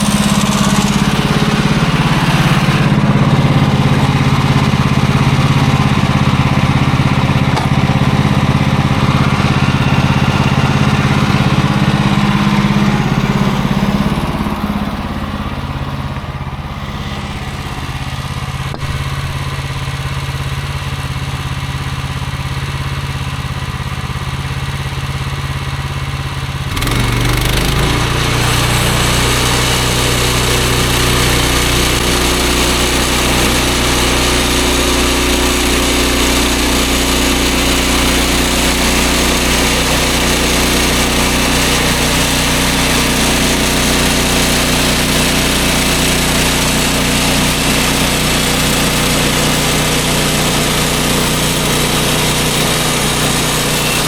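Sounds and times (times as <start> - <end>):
sawmill gas engine running: 0.0 - 54.0.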